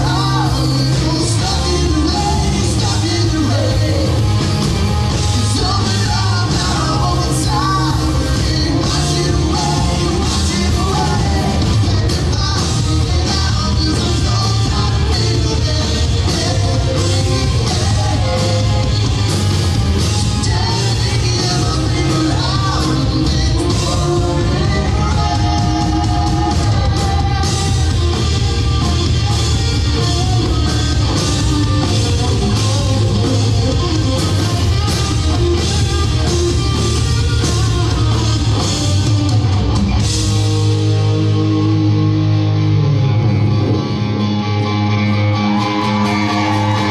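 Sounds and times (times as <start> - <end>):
man singing: 0.0 - 38.9
live rock band playing: 0.0 - 46.9.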